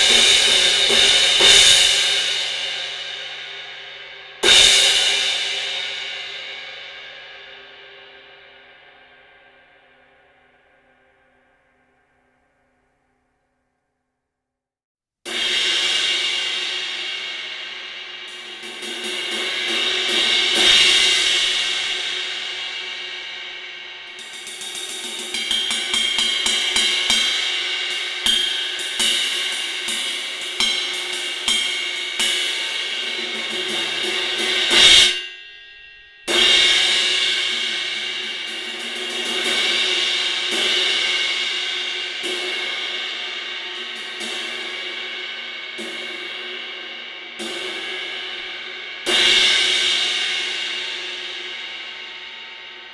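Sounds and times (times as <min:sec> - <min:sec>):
cymbal played with sticks: 0:00.0 - 0:11.3, 0:15.3 - 0:52.9.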